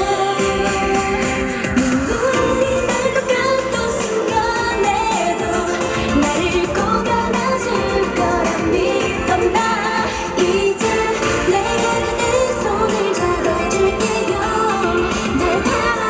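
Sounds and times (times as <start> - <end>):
backing track over loudspeakers: 0.0 - 16.0
girl group singing pop song: 0.0 - 16.0.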